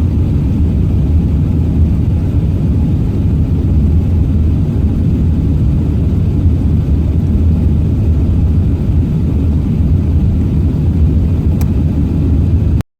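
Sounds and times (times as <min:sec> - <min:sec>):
aircraft cabin engine rumble: 0:00.0 - 0:12.8.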